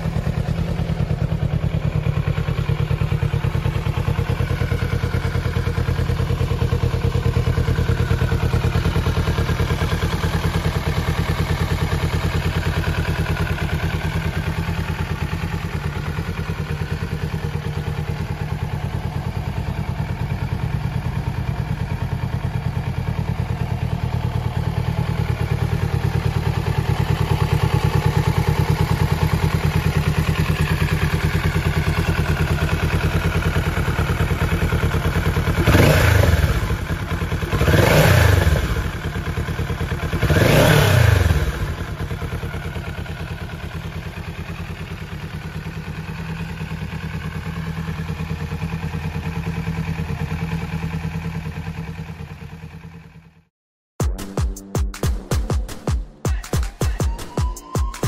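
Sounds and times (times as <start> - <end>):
motorcycle engine idling: 0.0 - 53.5.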